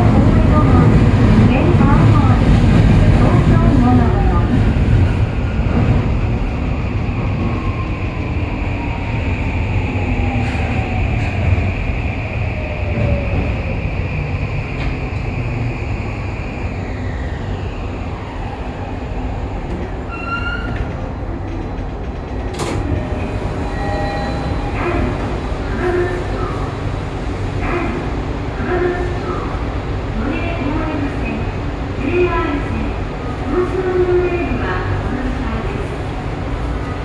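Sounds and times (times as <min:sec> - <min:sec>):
train wheels rumbling: 0:00.0 - 0:37.0.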